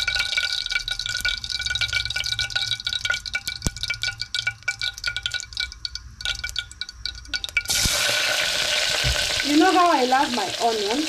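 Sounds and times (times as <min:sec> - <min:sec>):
hot oil crackling and spitting: 0:00.0 - 0:11.0
onions frying sizzle: 0:00.0 - 0:11.0.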